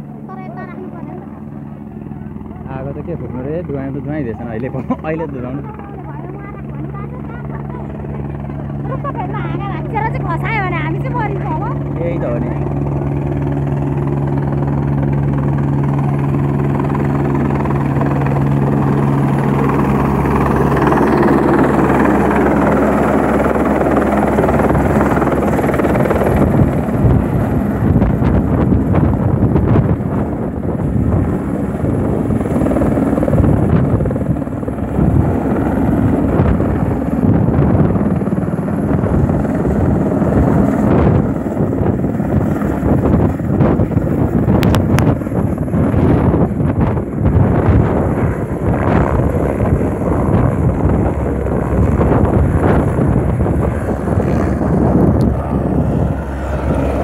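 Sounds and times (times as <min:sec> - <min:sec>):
helicopter rotor and engine drone: 0:00.0 - 0:57.0
rotor downwash buffeting microphone: 0:00.0 - 0:57.0.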